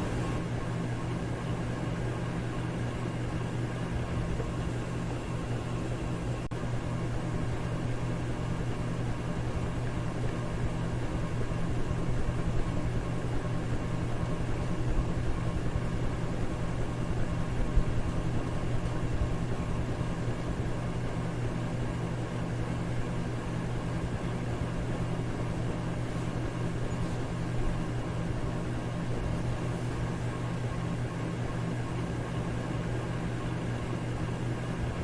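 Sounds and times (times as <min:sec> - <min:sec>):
electric fan running: 0:00.0 - 0:35.0.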